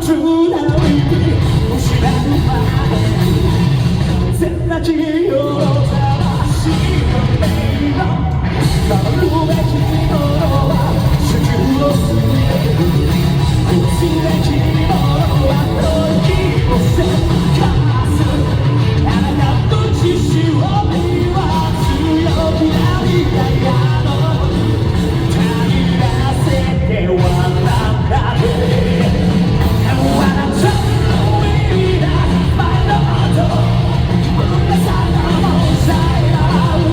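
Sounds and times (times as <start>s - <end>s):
distorted guitar: 0.0s - 36.9s
man singing: 0.0s - 36.9s
rock band playing live: 0.0s - 36.9s.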